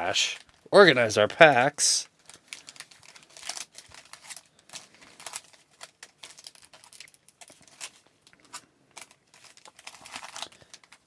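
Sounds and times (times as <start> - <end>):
foil packs tapping and crinkling: 0.1 - 11.0.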